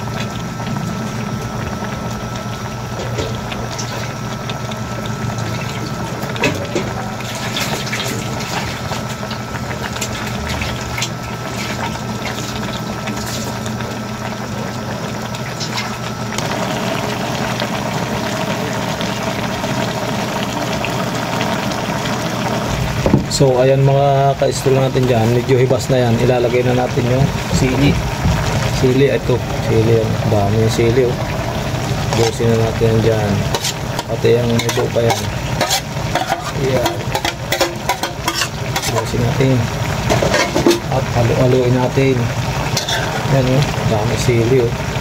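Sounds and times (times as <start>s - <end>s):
broth bubbling and popping in a wok: 0.0s - 45.0s
steady low hum: 0.0s - 45.0s.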